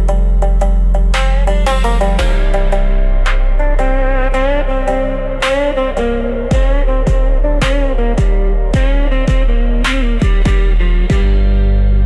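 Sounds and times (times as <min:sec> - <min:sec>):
low falling-pitch beat: 0:00.0 - 0:12.0
sustained guitar: 0:00.0 - 0:12.0.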